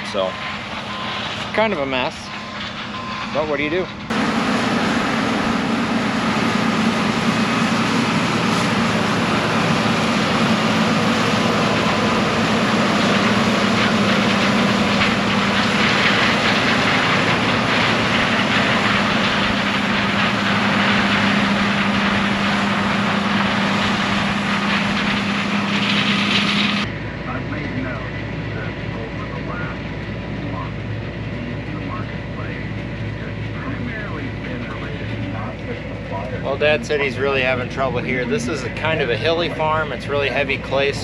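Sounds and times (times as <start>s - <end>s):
combine harvester engine drone: 0.0s - 41.0s.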